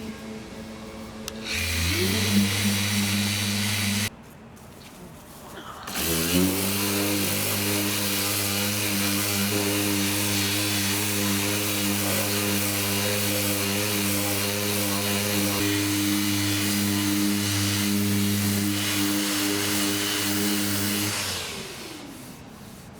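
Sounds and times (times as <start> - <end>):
electric sander motor humming: 0.0 - 4.1, 5.9 - 22.6.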